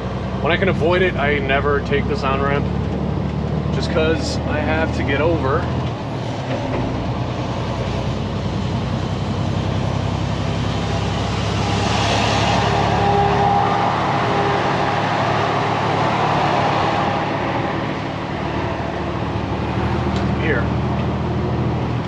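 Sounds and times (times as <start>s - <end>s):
road noise: 0.0s - 22.0s
truck diesel engine running: 0.0s - 22.0s.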